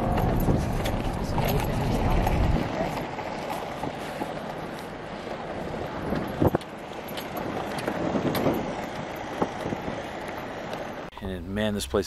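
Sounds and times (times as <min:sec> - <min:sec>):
wind noise on microphone: 0:00.0 - 0:04.6, 0:05.2 - 0:10.6.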